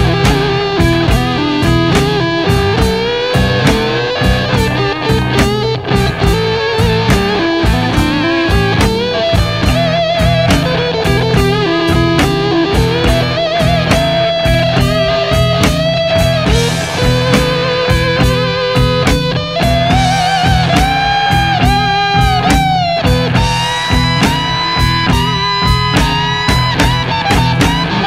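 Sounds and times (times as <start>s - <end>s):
bass guitar: 0.0s - 28.0s
drums: 0.0s - 28.0s
electric guitar: 0.0s - 28.0s.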